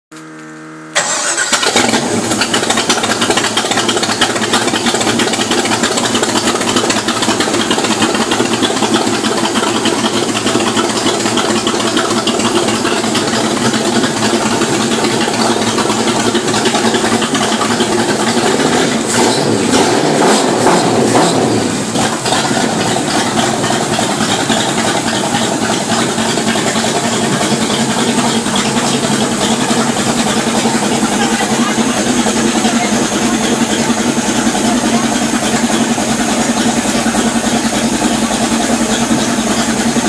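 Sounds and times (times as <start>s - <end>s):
supercharged engine running: 0.1s - 40.0s.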